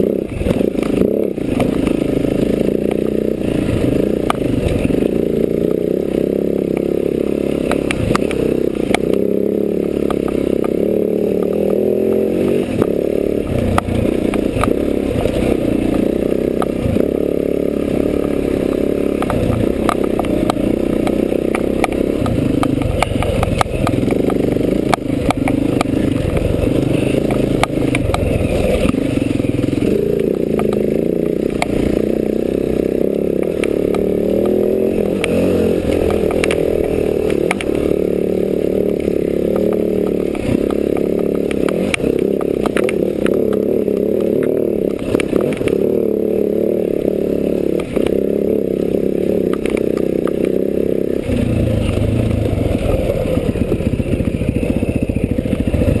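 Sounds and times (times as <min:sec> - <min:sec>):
dirt bike engine: 0:00.0 - 0:56.0.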